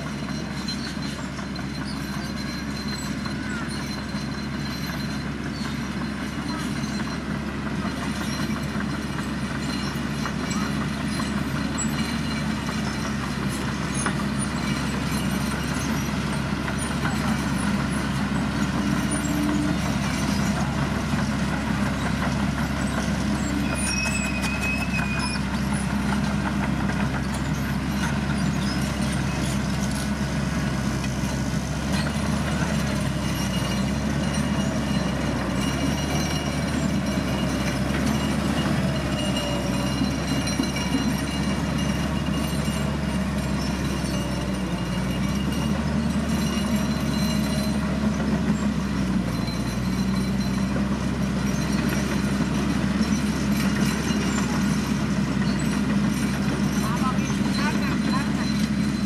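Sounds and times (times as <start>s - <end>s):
bulldozer engine: 0.0s - 59.0s
bulldozer pushing dirt: 0.0s - 59.0s
road roller engine: 0.0s - 59.0s.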